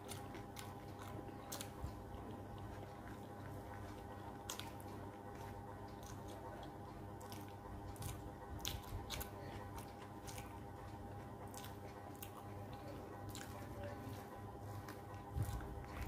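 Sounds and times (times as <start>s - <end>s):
faint hum: 0.0s - 16.0s
fingers mixing rice: 0.0s - 16.0s
person chewing: 0.0s - 16.0s.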